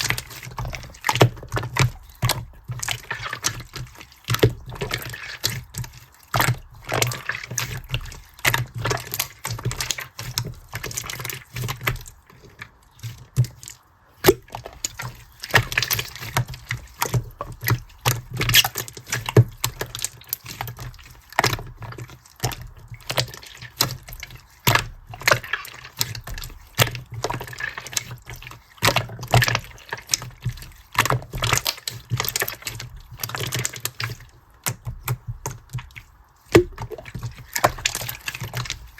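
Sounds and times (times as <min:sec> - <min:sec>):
slime squelching: 0:00.0 - 0:38.9.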